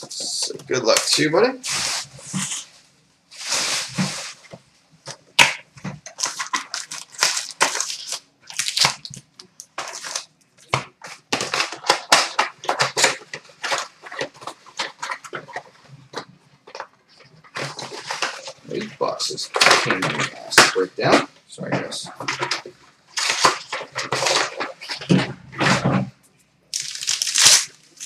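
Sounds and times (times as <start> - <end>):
card packs rustling and crinkling: 0.0 - 26.1, 26.7 - 28.0.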